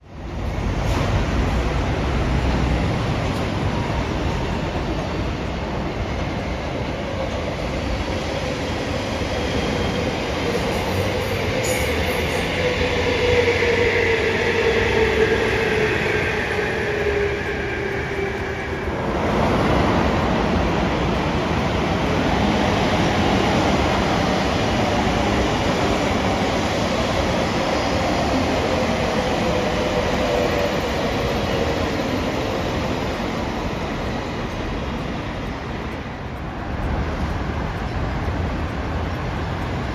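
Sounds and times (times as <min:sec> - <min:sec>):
train with falling whining tones: 0:00.0 - 0:39.9.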